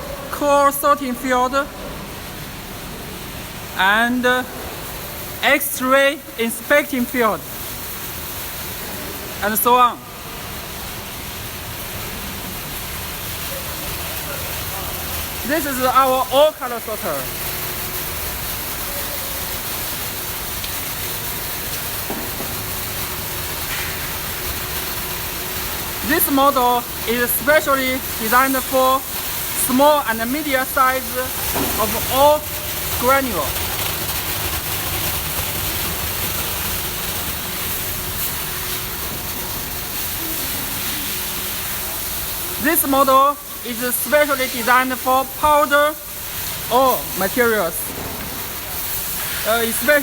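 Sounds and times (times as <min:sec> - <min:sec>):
machinery hiss and hum: 0:00.0 - 0:50.0.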